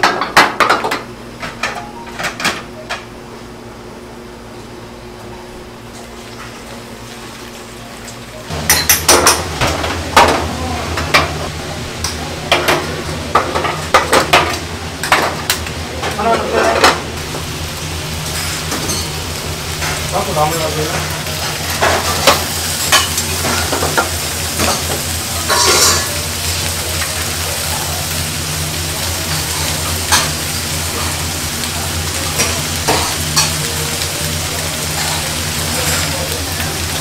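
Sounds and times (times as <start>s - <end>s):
kitchen hum: 0.0s - 37.0s
food sizzling in bowls: 4.6s - 37.0s.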